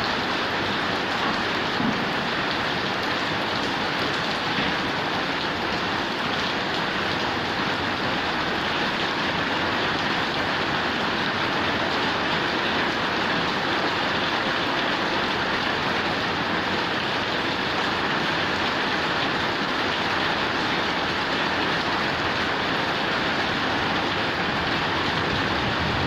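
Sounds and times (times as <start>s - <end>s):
rain on a metal roof: 0.0s - 26.0s.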